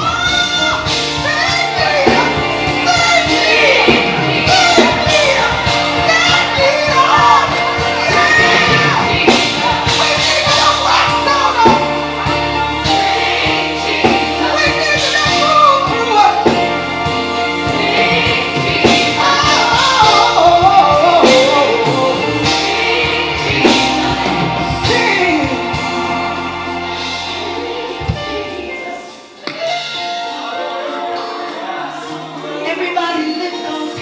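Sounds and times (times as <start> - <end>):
voices singing gospel music: 0.0 - 34.0.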